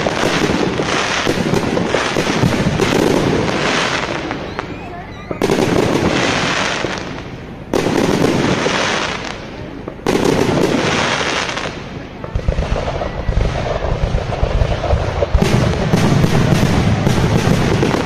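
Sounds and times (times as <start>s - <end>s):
fireworks bursting with bangs: 0.0s - 18.0s
rapid fireworks pops: 0.0s - 18.0s.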